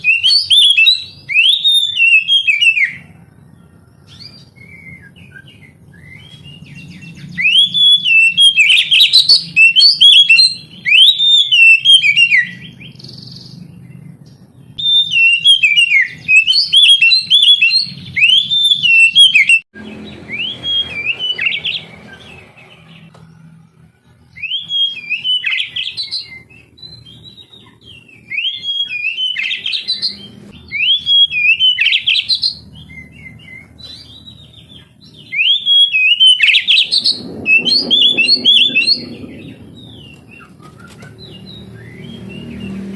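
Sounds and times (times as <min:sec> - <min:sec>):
bird singing whistled phrases: 0:00.0 - 0:03.2, 0:04.0 - 0:13.7, 0:14.8 - 0:23.1, 0:24.3 - 0:42.9.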